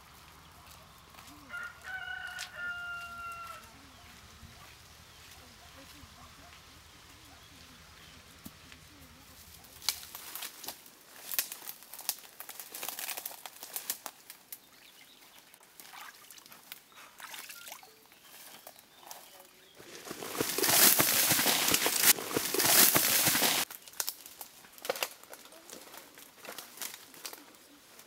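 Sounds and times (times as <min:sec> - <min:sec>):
leaves and twigs rustling and snapping: 0:00.0 - 0:17.1, 0:17.8 - 0:28.0.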